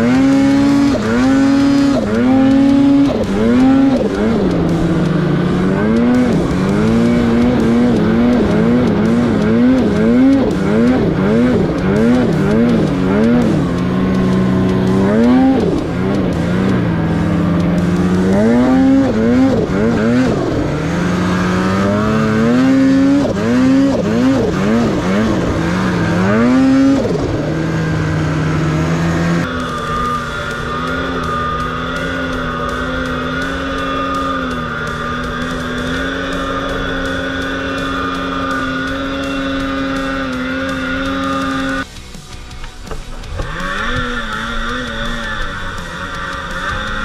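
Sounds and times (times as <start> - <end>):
snowmobile engine revving: 0.0 - 42.1, 42.7 - 47.0.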